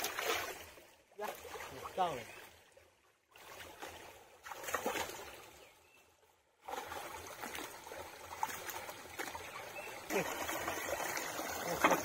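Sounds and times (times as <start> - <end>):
water trickling in a stream: 0.0 - 12.0.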